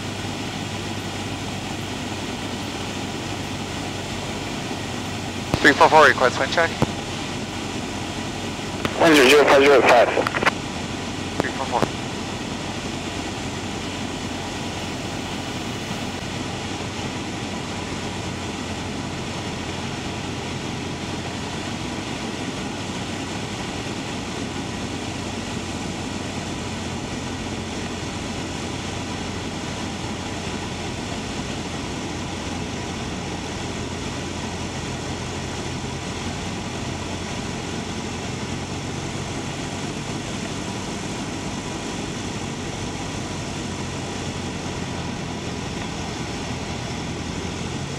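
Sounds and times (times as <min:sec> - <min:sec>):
propeller plane engine droning: 0:00.0 - 0:47.9.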